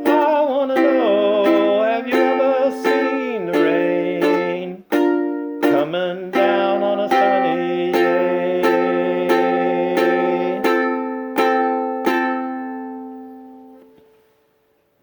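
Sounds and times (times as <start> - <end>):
ukulele strumming chords: 0.0 - 14.3.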